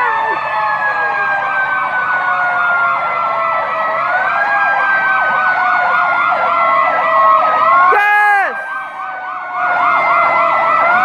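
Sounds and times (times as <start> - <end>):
fast yelping siren: 0.0 - 9.0.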